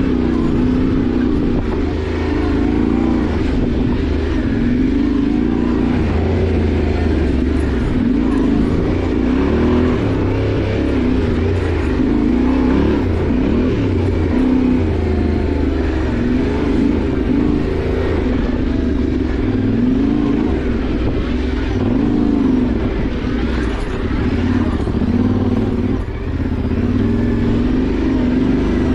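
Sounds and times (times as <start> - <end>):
motorcycle engine revving under load: 0.0 - 28.9.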